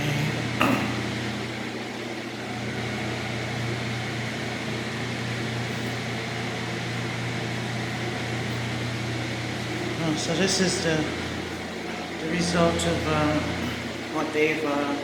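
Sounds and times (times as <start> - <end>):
machine whirring hum: 0.0 - 15.0.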